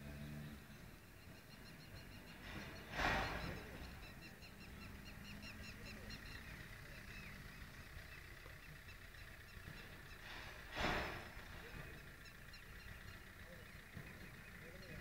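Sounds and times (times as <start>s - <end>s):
small birds chirping rapidly: 0.0s - 15.0s.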